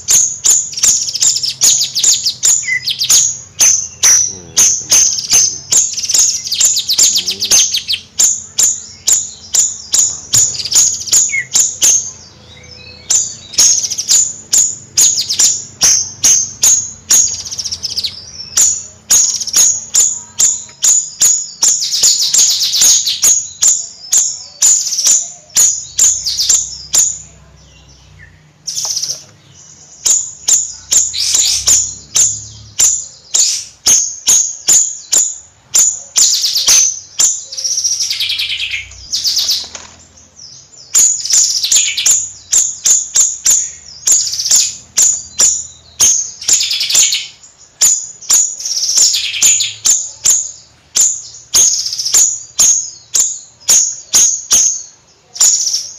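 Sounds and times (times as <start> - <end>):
songbird chattering: 0.0 - 55.9.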